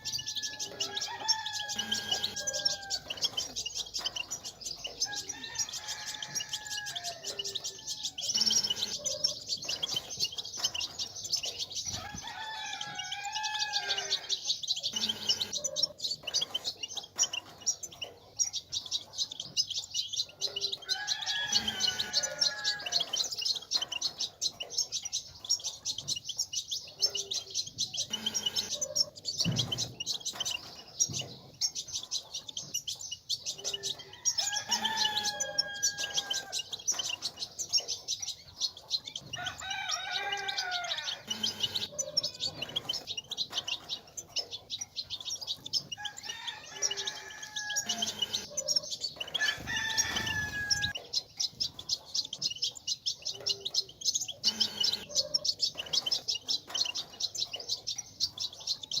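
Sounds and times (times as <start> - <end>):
finches twittering: 0.0 - 59.0.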